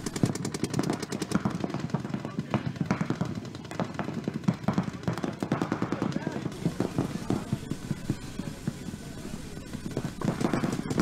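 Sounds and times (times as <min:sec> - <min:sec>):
paintball guns firing: 0:00.0 - 0:11.0.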